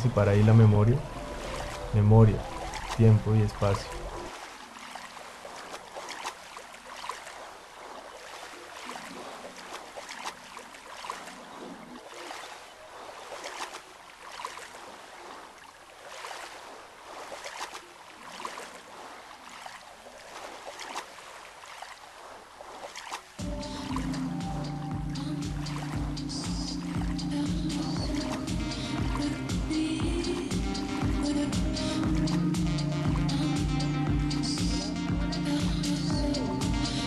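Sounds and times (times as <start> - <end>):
water trickling: 0.0 - 33.4
water lapping and splashing: 0.0 - 37.0.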